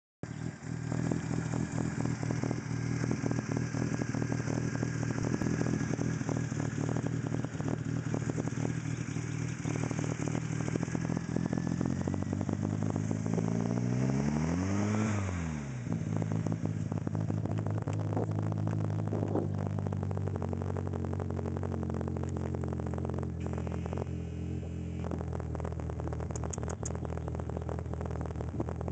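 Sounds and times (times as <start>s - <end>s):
car engine idling and revving: 0.2s - 28.9s.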